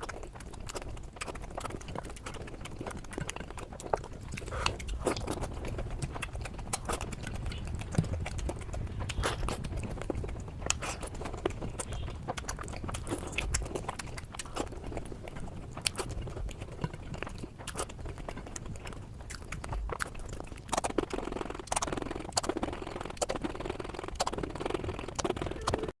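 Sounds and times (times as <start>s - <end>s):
person chewing with crunches: 0.0s - 25.9s.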